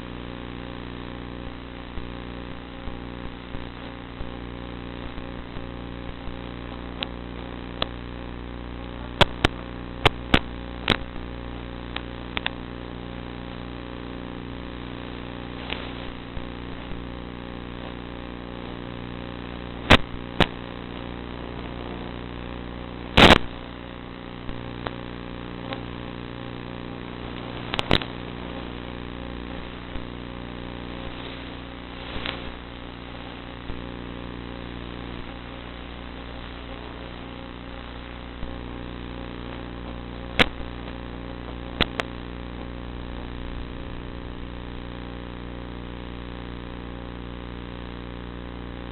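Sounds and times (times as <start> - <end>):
sharp clicks and pops: 1.8 - 8.2, 9.1 - 13.0, 14.6 - 43.7.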